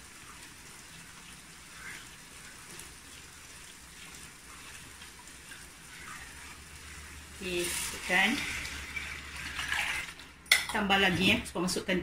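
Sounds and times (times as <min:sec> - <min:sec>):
milk pouring: 0:00.0 - 0:10.4
paste sizzling in hot oil: 0:00.0 - 0:10.5.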